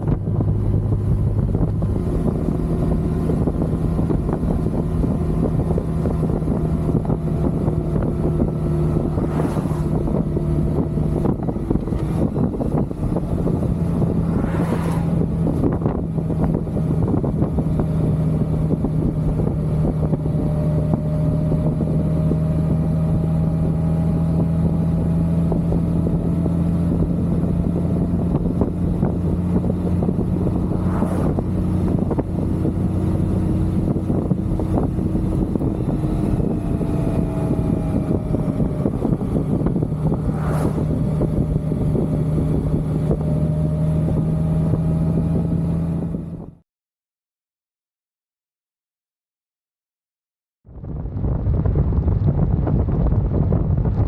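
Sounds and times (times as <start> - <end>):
motorcycle engine cruising: 0.0 - 46.6
wind noise on microphone: 0.0 - 46.6, 50.7 - 54.0.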